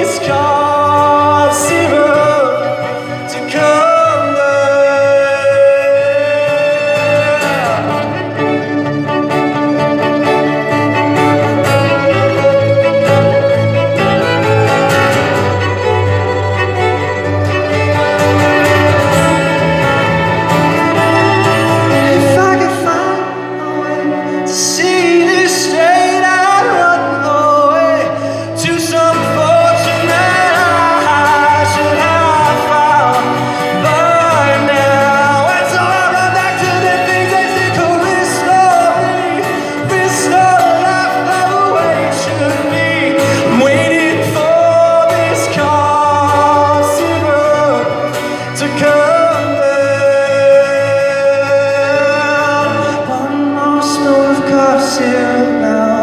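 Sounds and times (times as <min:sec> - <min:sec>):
instrumental accompaniment: 0:00.0 - 0:56.0
man singing pop song: 0:00.0 - 0:56.0.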